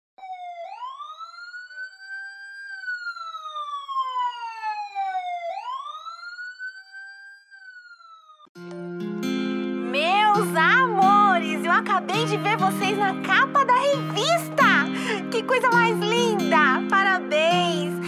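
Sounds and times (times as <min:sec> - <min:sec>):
wailing siren: 0:00.2 - 0:08.5, 0:11.1 - 0:18.0.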